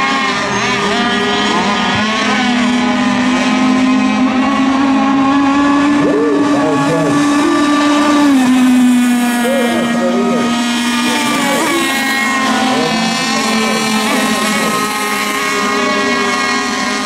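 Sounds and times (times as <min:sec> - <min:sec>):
racing boat engines whining: 0:00.0 - 0:17.0.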